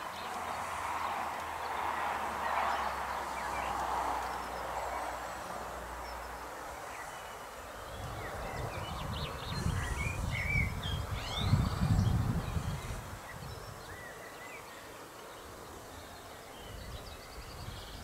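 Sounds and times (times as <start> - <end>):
small birds chirping: 0.0 - 18.0
steady rushing hiss: 0.0 - 18.0.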